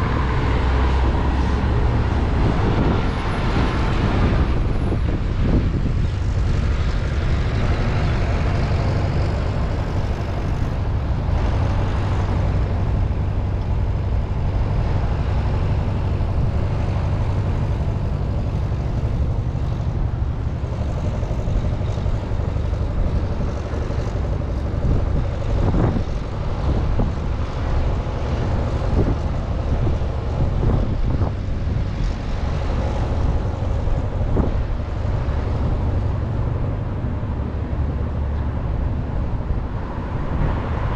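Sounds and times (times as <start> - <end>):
city street traffic rumble: 0.0 - 40.9.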